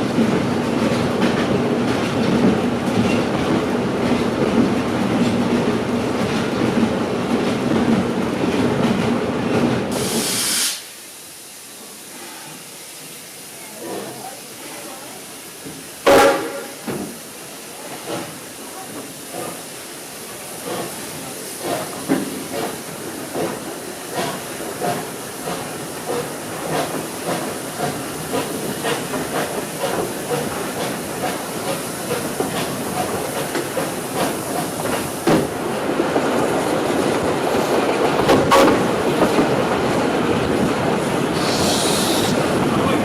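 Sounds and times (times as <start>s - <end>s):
steam locomotive hissing and chuffing: 0.0s - 43.0s.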